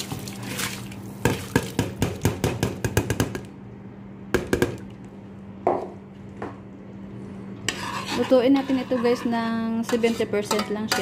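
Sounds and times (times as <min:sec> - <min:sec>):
steady low hum: 0:02.1 - 0:11.0.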